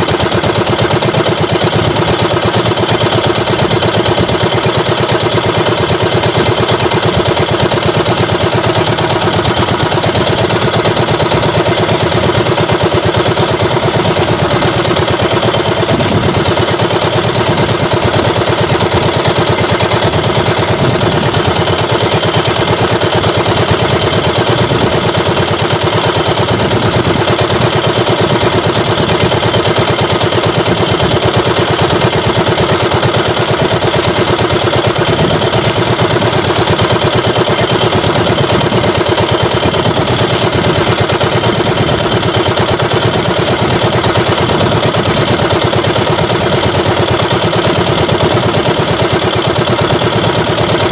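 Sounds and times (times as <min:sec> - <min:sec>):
boat engine idling: 0:00.0 - 0:50.9.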